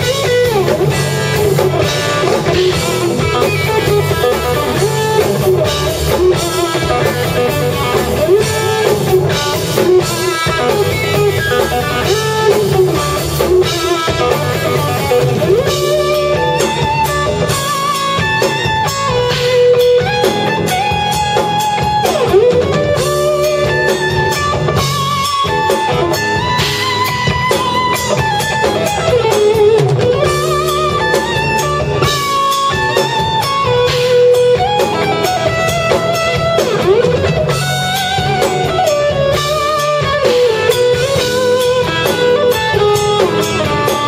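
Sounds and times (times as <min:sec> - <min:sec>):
electric guitar bending notes: 0:00.0 - 0:44.0
rock band playing: 0:00.0 - 0:44.0.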